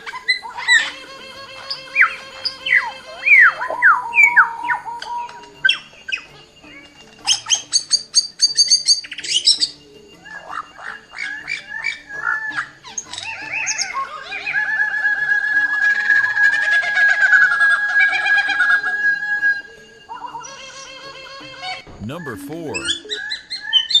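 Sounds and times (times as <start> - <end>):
soft background music: 0.0 - 24.0.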